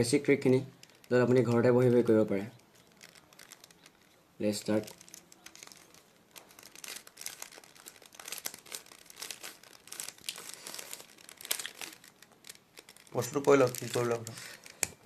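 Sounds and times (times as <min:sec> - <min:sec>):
plastic puzzle cube clicking: 0:02.6 - 0:15.0.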